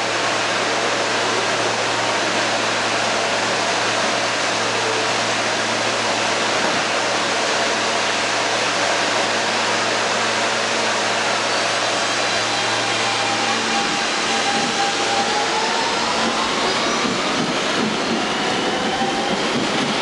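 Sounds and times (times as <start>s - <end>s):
subway car ventilation hiss and hum: 0.0s - 16.6s.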